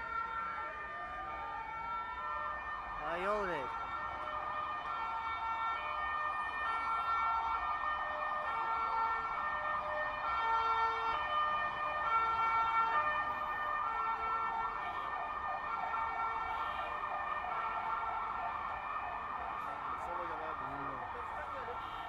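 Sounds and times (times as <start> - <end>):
fire engine siren: 0.0 - 22.0.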